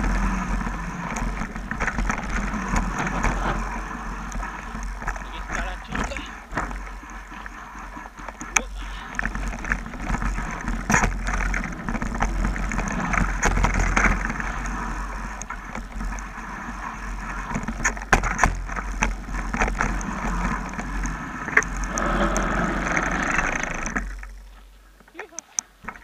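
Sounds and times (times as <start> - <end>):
bike knocking and rattling: 0.0 - 26.0
tyres on dirt and gravel: 0.0 - 26.0.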